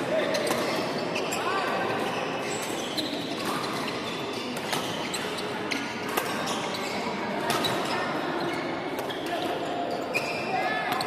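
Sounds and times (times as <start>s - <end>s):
sports hall background din: 0.0s - 11.0s.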